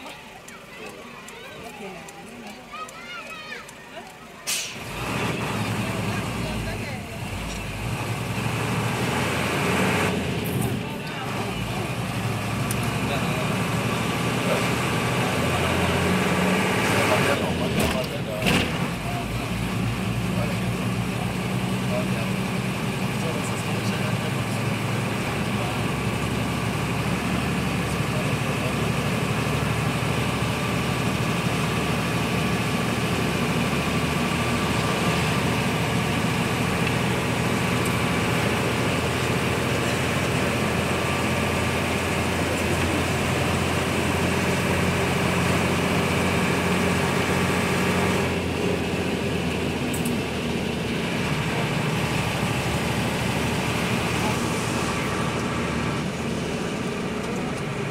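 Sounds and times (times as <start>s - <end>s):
road noise inside vehicle: 0.0s - 57.9s
vehicle engine hum: 0.0s - 57.9s.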